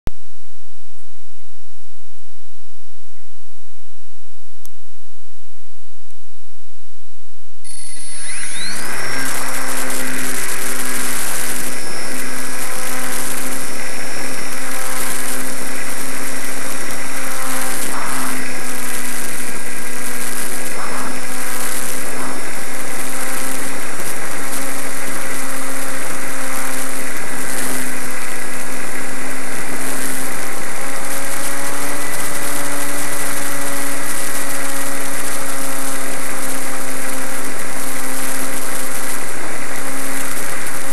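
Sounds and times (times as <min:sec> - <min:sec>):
motor and propeller whine: 0:07.7 - 0:40.9.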